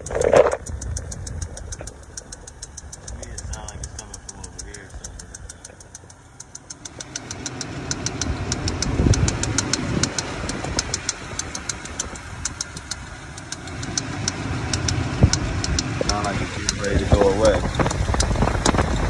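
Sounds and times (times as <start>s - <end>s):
car engine idling: 0.0s - 19.0s
rapid light ticking: 0.0s - 19.0s.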